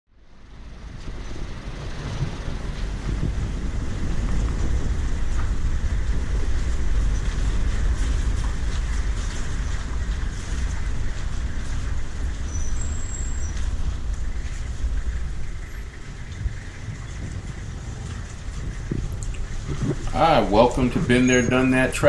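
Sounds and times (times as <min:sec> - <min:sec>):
road vehicle rumble: 0:00.1 - 0:22.0
wind buffeting microphone: 0:00.5 - 0:22.0.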